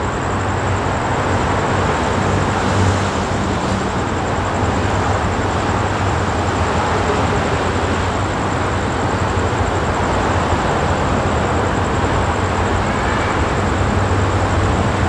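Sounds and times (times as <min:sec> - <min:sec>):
train rumbling along rails: 0:00.0 - 0:15.0.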